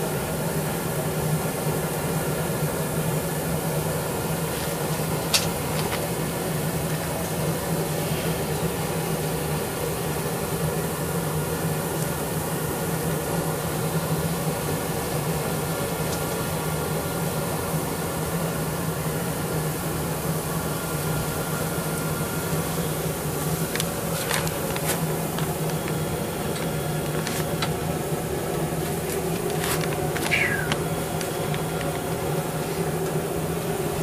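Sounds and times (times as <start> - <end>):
gas forge humming: 0.0 - 34.0.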